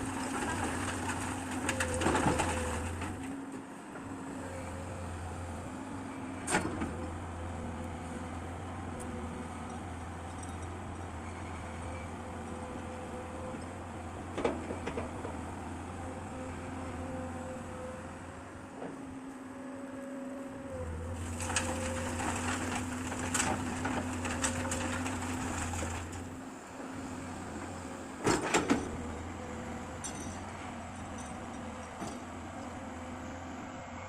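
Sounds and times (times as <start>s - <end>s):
excavator engine running: 0.0s - 31.8s.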